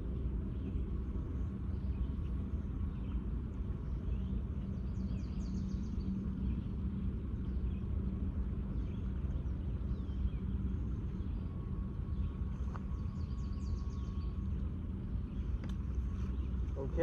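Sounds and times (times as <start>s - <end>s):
outdoor rumble with droning hum: 0.0s - 17.0s.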